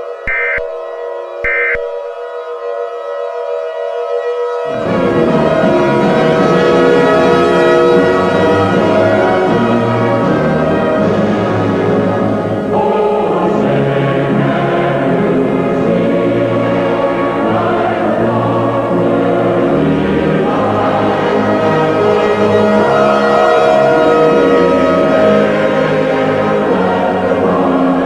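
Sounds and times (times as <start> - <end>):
choir singing an anthem: 4.7 - 28.0.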